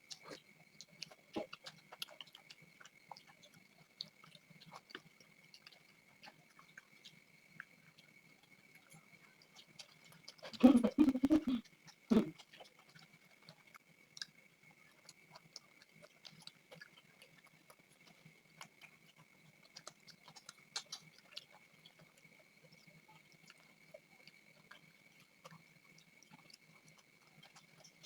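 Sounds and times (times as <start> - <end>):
chewing and mouth clicks: 0.0 - 28.0.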